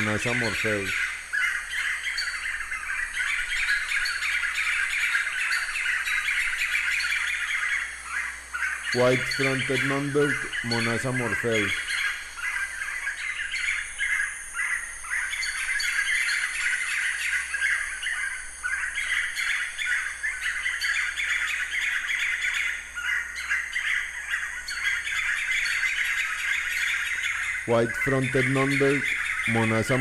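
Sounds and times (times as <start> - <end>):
bird calling rapidly: 0.0 - 30.0.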